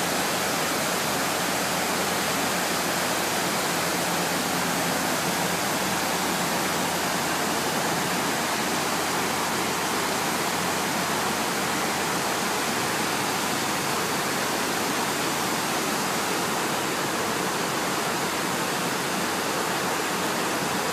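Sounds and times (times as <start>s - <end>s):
water cascading into basin: 0.0s - 20.9s.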